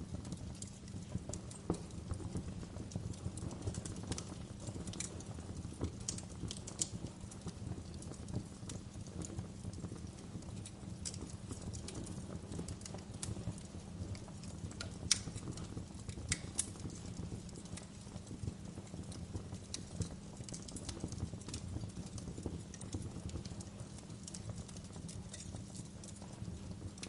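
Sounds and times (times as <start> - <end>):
fire crackling in fireplace: 0.0 - 27.0.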